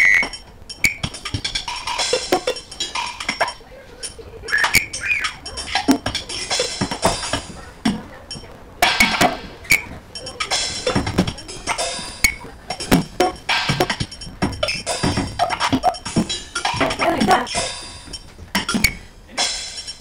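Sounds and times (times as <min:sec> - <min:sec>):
sparse percussive music: 0:00.0 - 0:20.0.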